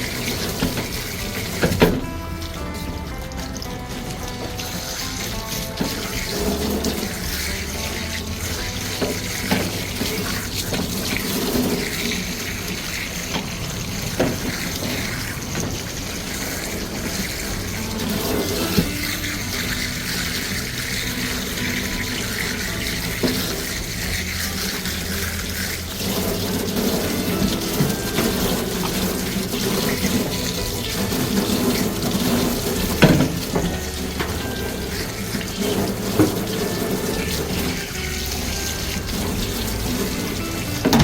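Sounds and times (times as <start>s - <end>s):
water running: 0.0s - 41.0s.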